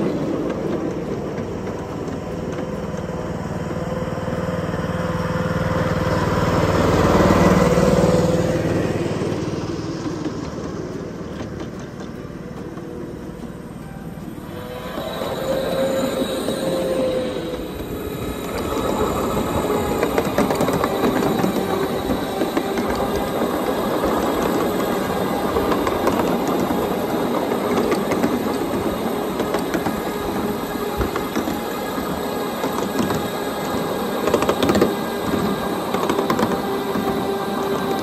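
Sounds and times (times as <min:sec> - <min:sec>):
clicking over rail joints: 0:00.0 - 0:04.0, 0:08.2 - 0:38.0
steel wheels rumbling on rail: 0:00.0 - 0:38.0
train clatter: 0:00.0 - 0:38.0.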